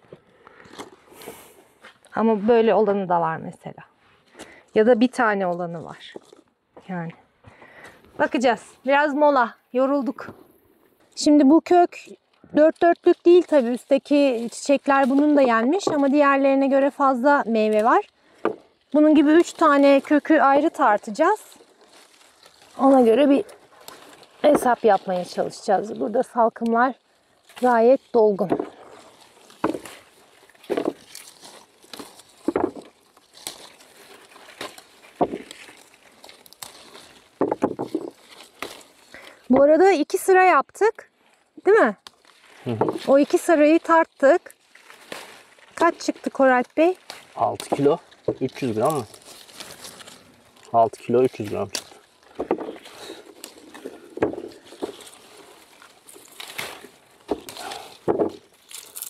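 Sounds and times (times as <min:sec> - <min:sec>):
rustling of berry bush: 0:00.0 - 0:59.0.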